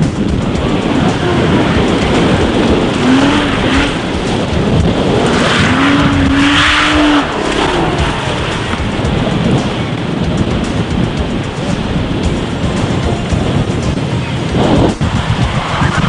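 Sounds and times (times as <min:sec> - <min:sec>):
car engine revving hard: 0:00.0 - 0:16.0
steady rush of noise: 0:00.0 - 0:16.0.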